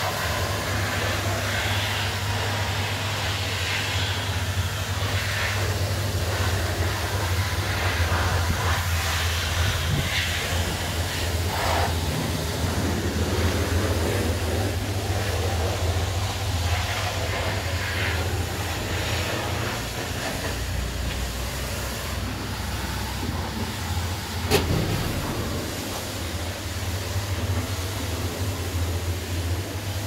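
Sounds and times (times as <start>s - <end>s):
roller engine idling: 5.8s - 30.0s.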